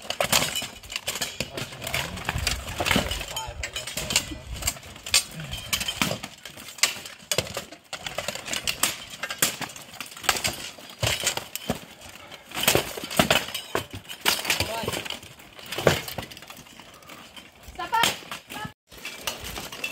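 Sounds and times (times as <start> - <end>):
metal armour clanking: 0.0 - 19.9.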